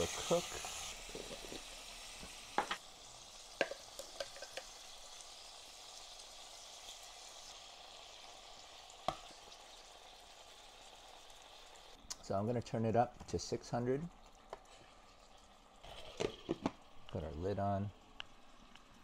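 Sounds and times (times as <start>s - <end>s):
food sizzling: 0.0s - 19.0s.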